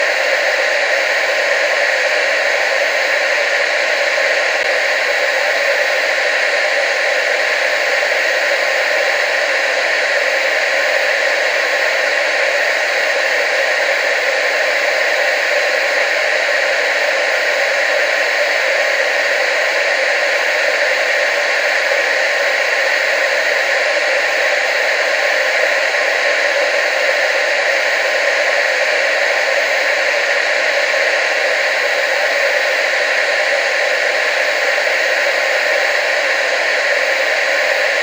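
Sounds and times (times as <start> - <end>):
tv static hiss: 0.0 - 38.0.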